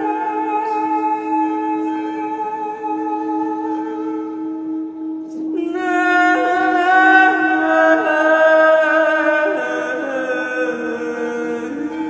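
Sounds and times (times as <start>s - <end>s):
singing bowl humming: 0.0s - 12.0s.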